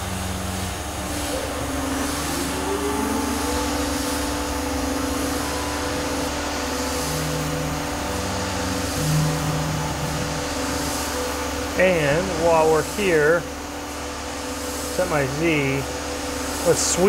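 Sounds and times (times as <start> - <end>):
drive motors whining: 0.0 - 17.0
electrical hum: 0.0 - 17.0.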